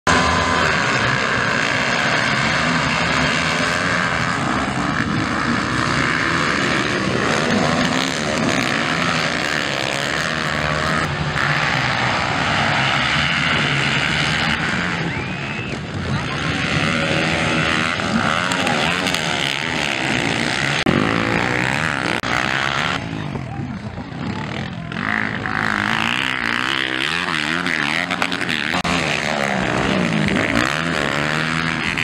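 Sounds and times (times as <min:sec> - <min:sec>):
motocross engines revving: 0:00.1 - 0:32.0.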